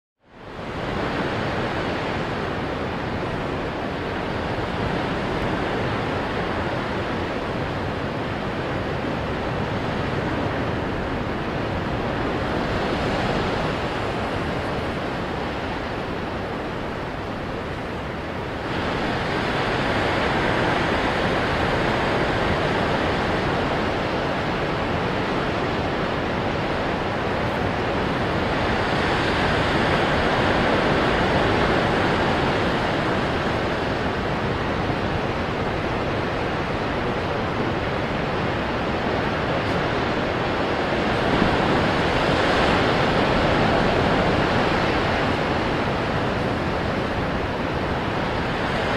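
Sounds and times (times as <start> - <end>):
ocean surf breaking: 0.4 - 48.9.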